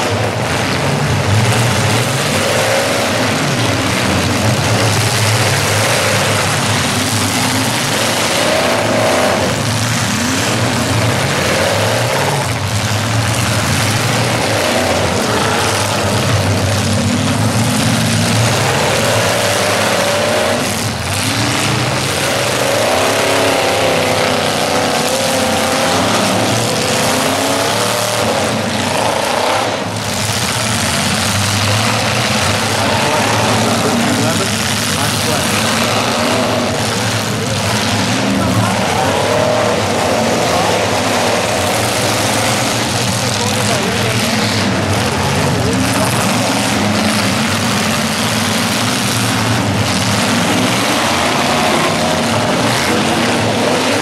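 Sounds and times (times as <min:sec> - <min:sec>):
car engines revving hard: 0:00.0 - 0:54.0
constant loud din: 0:00.0 - 0:54.0.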